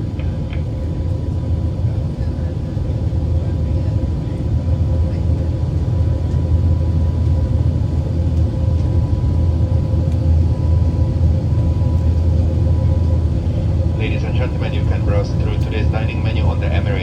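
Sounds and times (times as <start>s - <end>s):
aircraft engines and airflow rumble: 0.0s - 17.0s.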